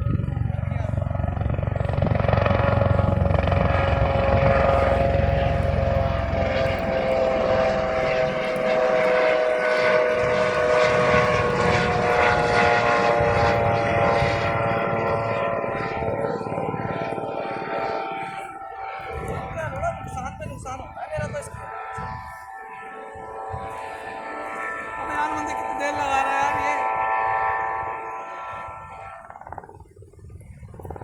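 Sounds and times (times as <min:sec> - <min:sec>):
helicopter engine whine: 0:00.0 - 0:31.0
helicopter rotor noise: 0:00.0 - 0:31.0.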